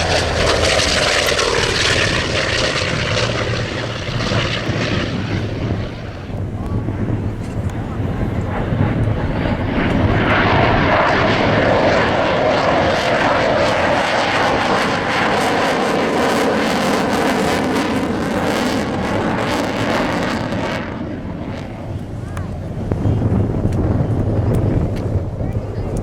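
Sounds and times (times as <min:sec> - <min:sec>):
airplane engine: 0:00.0 - 0:26.0.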